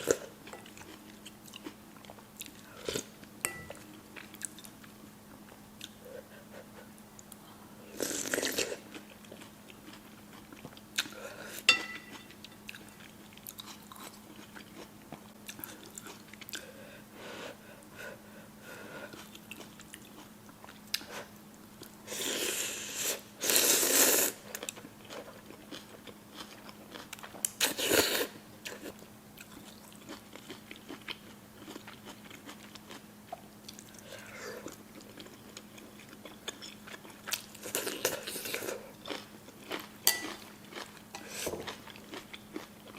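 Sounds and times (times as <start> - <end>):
person chewing noodles: 0.0 - 16.8, 18.6 - 42.9
faint steady hum: 0.0 - 42.9.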